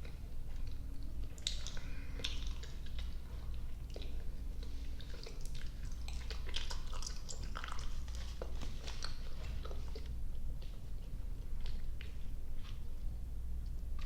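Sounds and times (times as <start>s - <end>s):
chewing sticky candy: 0.0s - 14.0s
low steady hum: 0.0s - 14.0s.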